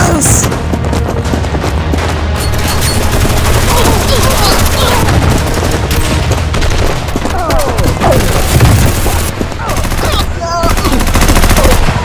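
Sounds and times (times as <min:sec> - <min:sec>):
rapid gunfire: 0:00.6 - 0:12.0.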